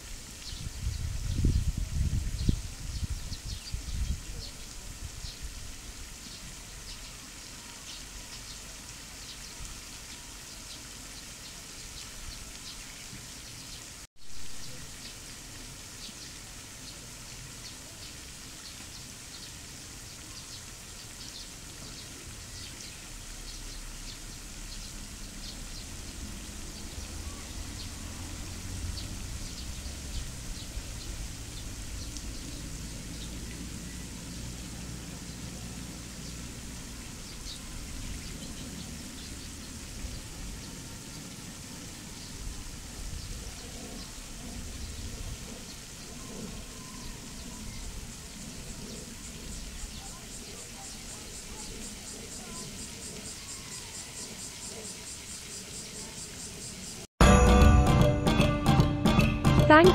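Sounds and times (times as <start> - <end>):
even outdoor hiss: 0.0 - 59.9.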